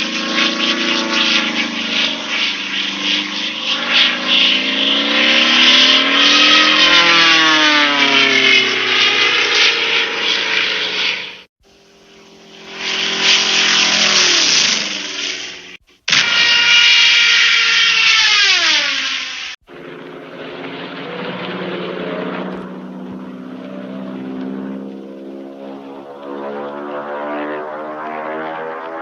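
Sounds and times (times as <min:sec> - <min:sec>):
airplane engine drone: 0:00.0 - 0:29.0.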